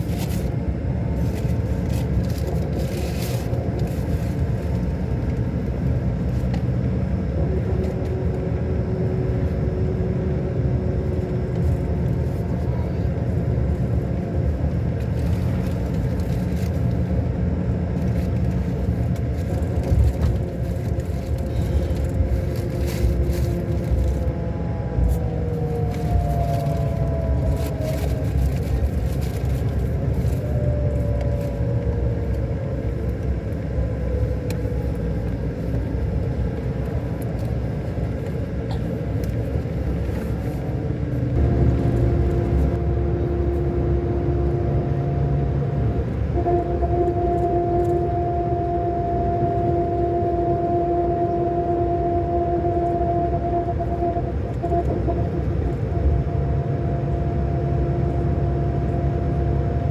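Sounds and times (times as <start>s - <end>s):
diesel engine rumbling and whining: 0.0s - 59.9s.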